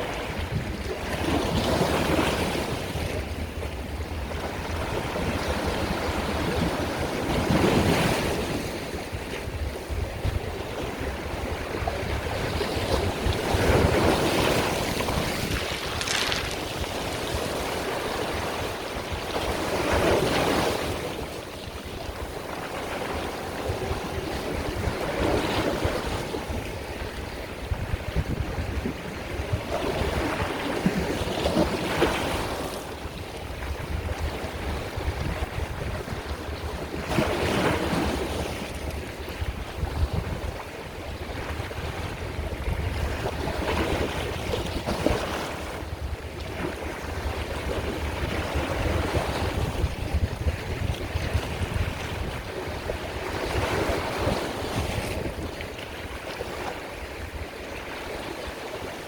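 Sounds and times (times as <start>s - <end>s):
sea waves breaking: 0.0s - 59.0s.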